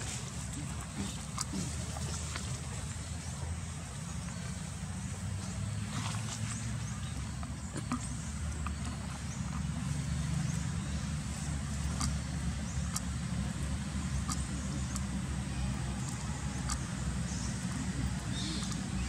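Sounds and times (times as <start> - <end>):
low motor rumble: 0.0 - 19.0.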